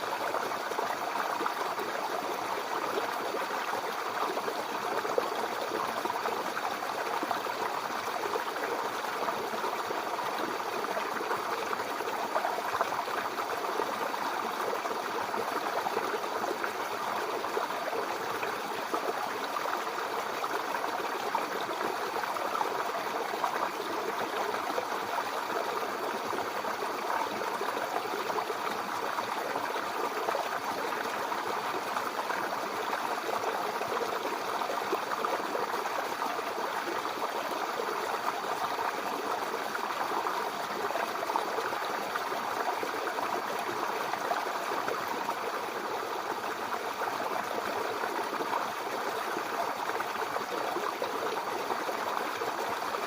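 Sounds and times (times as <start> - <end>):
water flowing over stones: 0.0 - 53.0.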